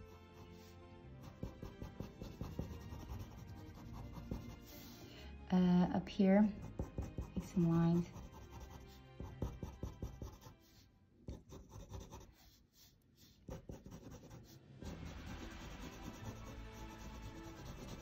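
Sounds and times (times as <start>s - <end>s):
pencil scratching on paper: 0.0s - 5.1s, 6.5s - 18.0s
faint background music: 0.0s - 18.0s.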